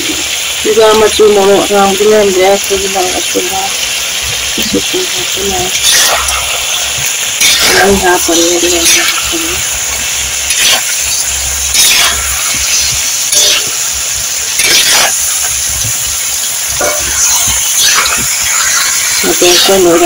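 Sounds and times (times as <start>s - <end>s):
food sizzling in a pot: 0.0s - 20.0s
crackle and spatter: 2.6s - 20.0s.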